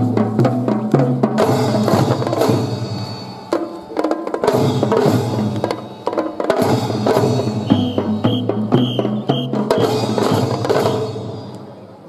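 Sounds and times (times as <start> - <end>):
drum and fife band playing: 0.0 - 11.7.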